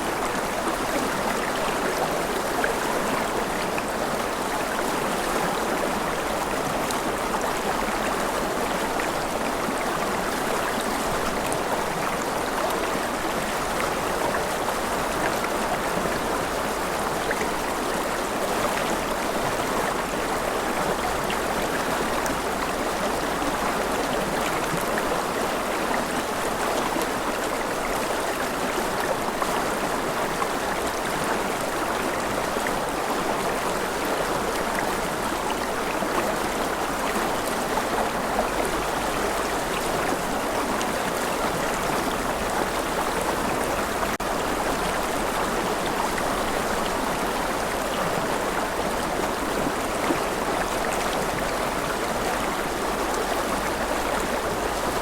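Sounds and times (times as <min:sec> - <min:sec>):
gentle rain: 0:00.0 - 0:55.0.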